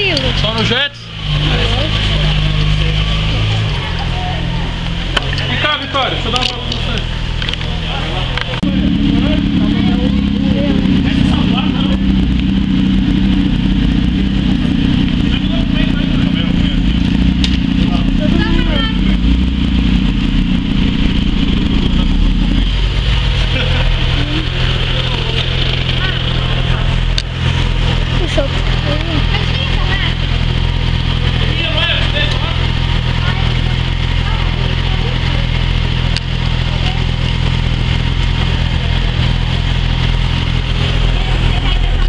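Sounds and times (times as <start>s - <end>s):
motorcycle engines rumbling: 0.0s - 42.0s.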